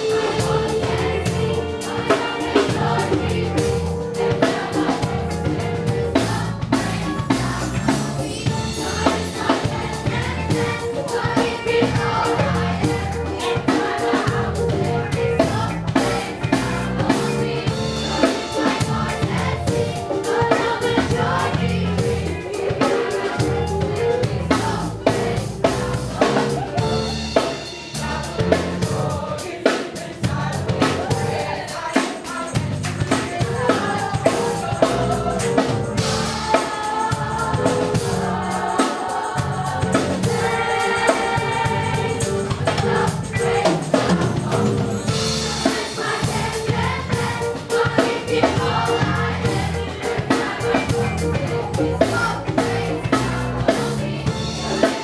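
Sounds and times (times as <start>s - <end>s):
choir singing gospel song: 0.0s - 55.0s
drum kit beat: 0.0s - 55.0s.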